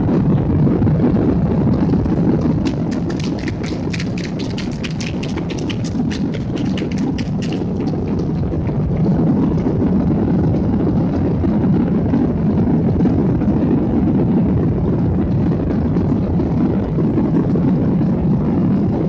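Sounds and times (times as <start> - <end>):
airliner engines rumbling in cabin: 0.0 - 19.0.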